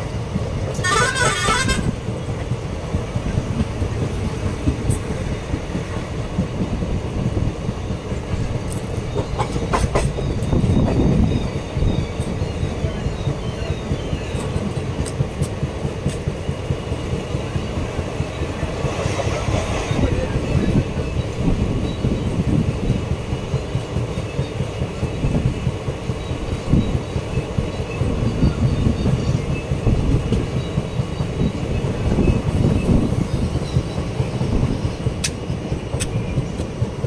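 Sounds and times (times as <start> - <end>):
train coach rumbling and rattling: 0.0 - 37.0.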